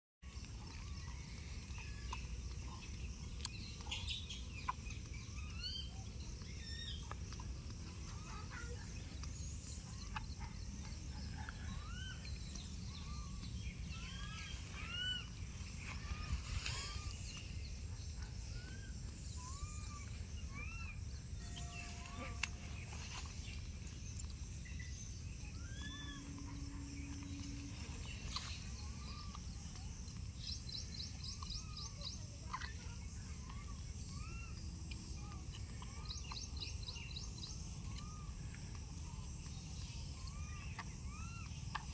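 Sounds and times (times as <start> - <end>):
animals chirping: 0.2 - 41.9
low outdoor rumble: 0.2 - 41.9.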